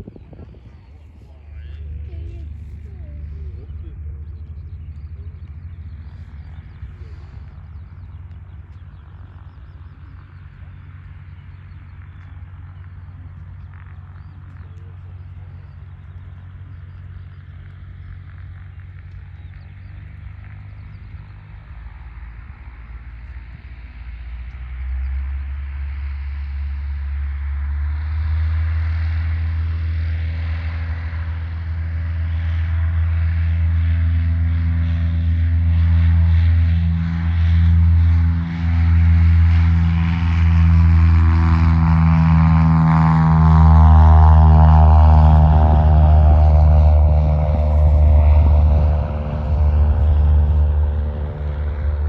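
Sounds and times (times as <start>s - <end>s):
propeller aircraft engine: 0.0s - 52.0s.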